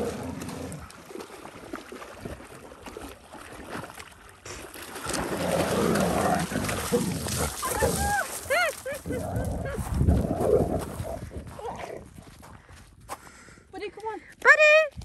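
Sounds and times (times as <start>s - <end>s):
dogs splashing through water: 0.0s - 12.2s.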